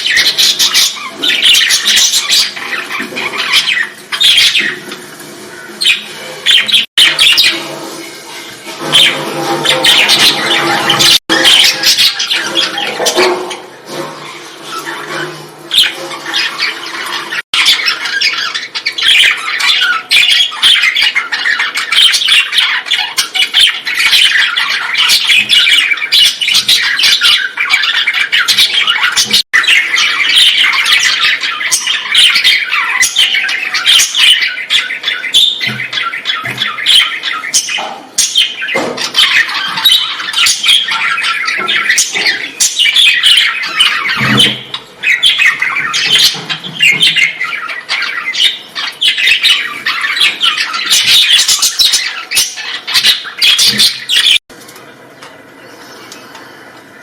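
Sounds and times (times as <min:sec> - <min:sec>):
birds squawking and chattering: 0:00.0 - 0:57.0.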